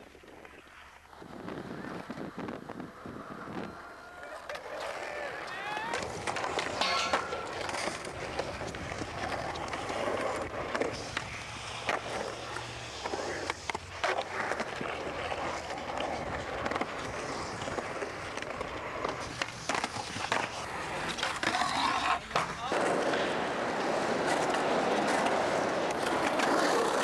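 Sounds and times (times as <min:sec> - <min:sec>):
skateboard wheels rolling on concrete: 0:00.0 - 0:27.0.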